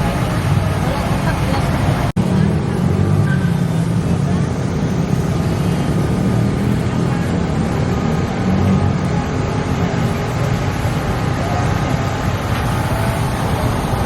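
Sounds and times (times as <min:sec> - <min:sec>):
faint crowd voices: 0:00.0 - 0:14.0
low traffic rumble: 0:00.0 - 0:14.0.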